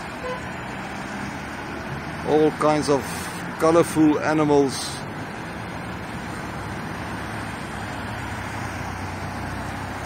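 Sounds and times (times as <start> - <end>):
car engine hum: 0.0 - 10.0
even rush of road noise: 0.0 - 10.0.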